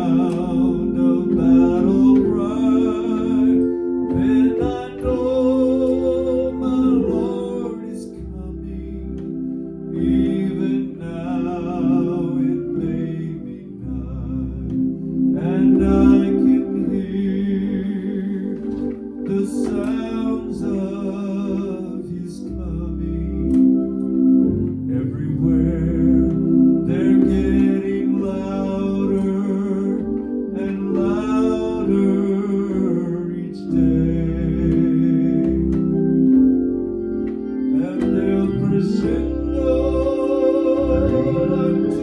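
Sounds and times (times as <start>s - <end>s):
hammond organ playing a hymn: 0.0s - 42.0s.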